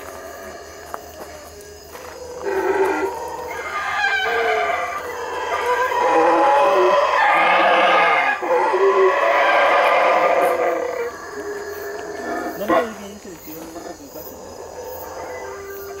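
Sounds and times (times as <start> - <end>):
howler monkeys howling: 0.0 - 16.0.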